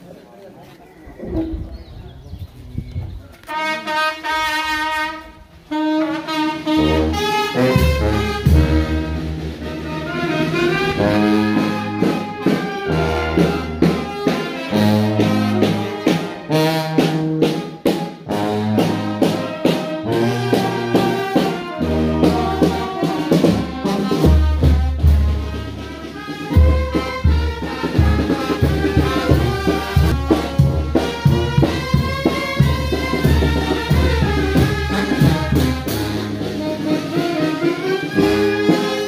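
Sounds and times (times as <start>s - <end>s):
brass band music: 3.4s - 39.0s
percussion hits: 6.7s - 39.0s.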